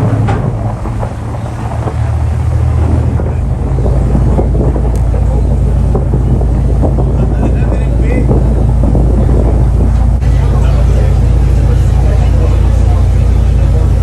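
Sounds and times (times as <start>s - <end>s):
boat engine droning: 0.0s - 14.0s
wind noise on microphone: 0.0s - 14.0s.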